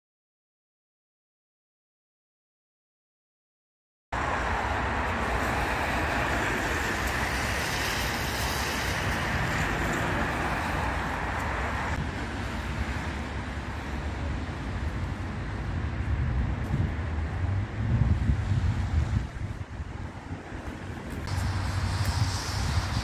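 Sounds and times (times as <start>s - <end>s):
road traffic noise: 4.1s - 23.0s
wind on microphone: 4.2s - 23.0s.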